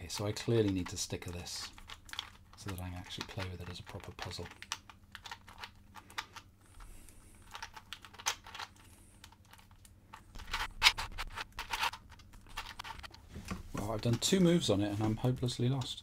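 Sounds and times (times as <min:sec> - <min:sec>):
plastic puzzle clicking and scraping: 0:00.0 - 0:16.0.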